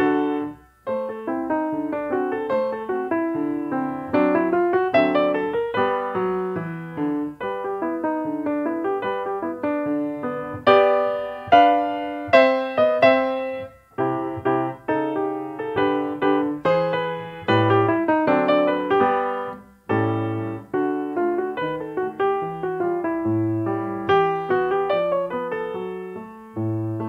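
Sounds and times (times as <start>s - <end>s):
solo piano music: 0.0s - 27.0s.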